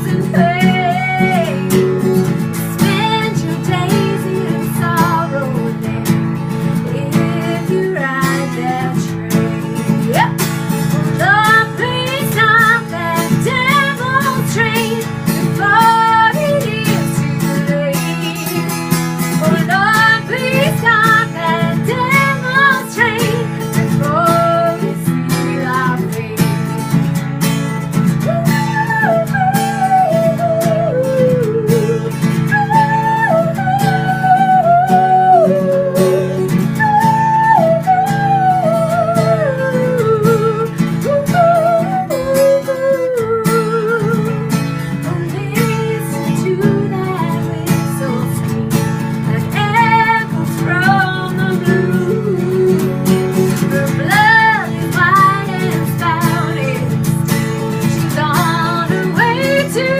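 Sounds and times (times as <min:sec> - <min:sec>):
person singing: 0:00.0 - 0:26.8, 0:28.2 - 0:59.9
acoustic guitar strumming: 0:00.0 - 0:59.9.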